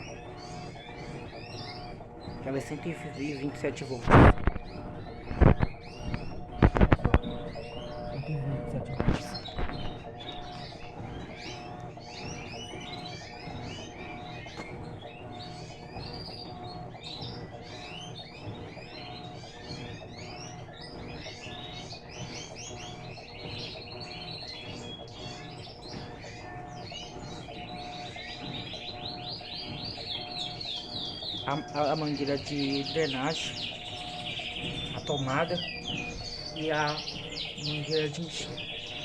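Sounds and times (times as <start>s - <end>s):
small birds chirping: 0.0s - 39.0s
steady low hum: 0.0s - 39.0s.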